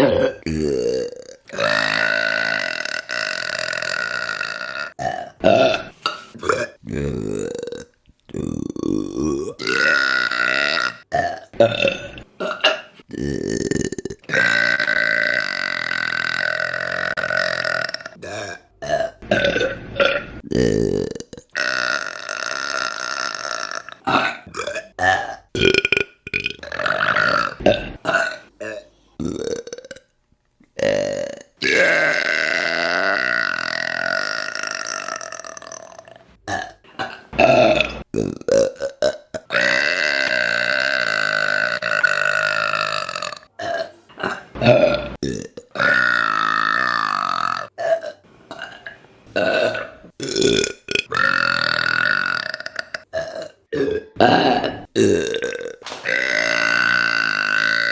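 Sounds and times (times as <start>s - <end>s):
women burping: 0.0s - 30.0s, 30.8s - 57.9s.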